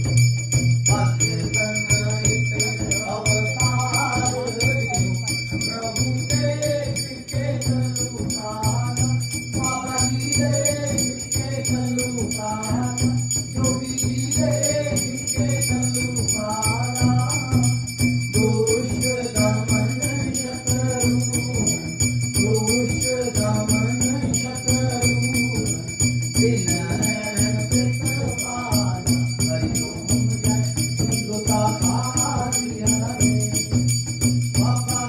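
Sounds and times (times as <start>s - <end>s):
small bells jingling: 0.0s - 35.0s
devotional hymn singing: 0.9s - 33.6s.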